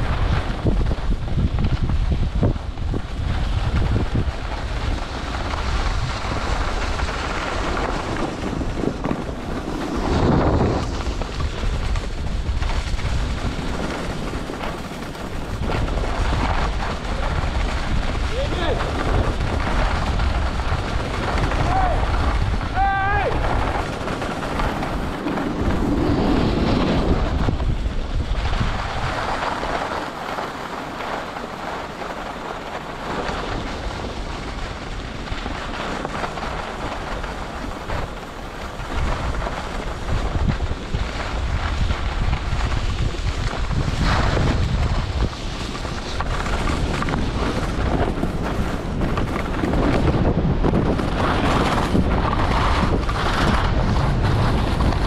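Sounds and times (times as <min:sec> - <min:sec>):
skis scraping on packed snow: 0:00.0 - 0:55.0
wind buffeting microphone: 0:00.0 - 0:55.0.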